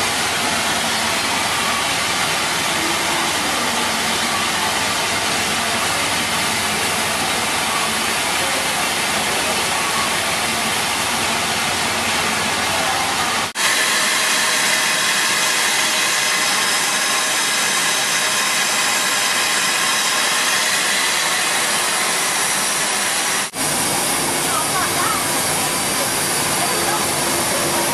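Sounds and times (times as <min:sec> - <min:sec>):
steam locomotive hissing: 0:00.0 - 0:27.9.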